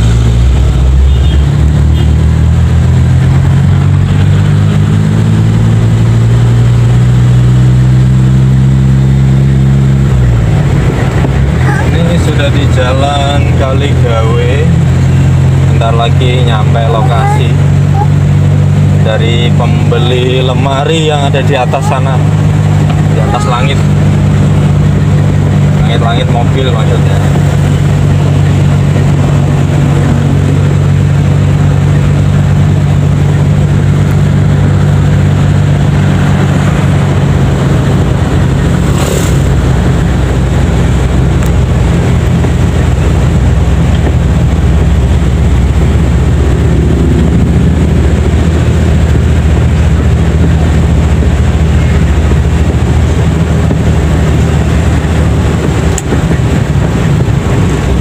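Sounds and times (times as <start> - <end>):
car engine running: 0.0 - 58.0
road noise inside car: 0.0 - 58.0.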